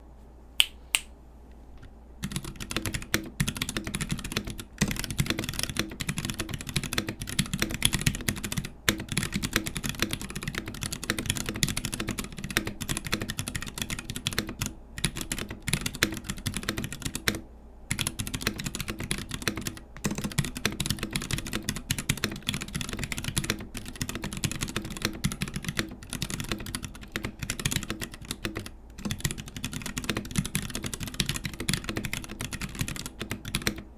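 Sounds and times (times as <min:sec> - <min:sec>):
mechanical keyboard typing: 0:02.2 - 0:33.9.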